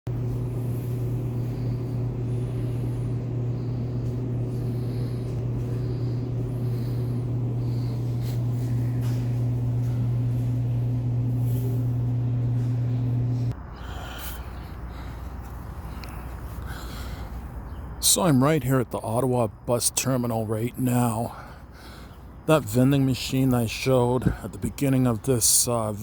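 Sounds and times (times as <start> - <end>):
low machine hum: 0.1 - 26.0.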